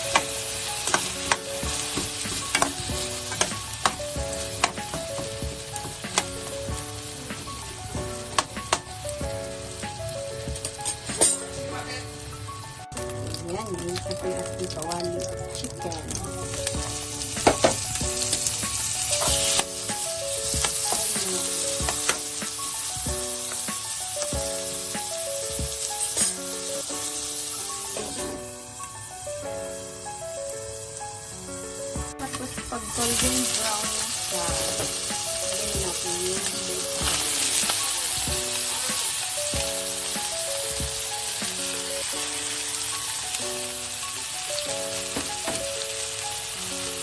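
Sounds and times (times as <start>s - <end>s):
vegetables sizzling in oil: 0.0s - 47.0s.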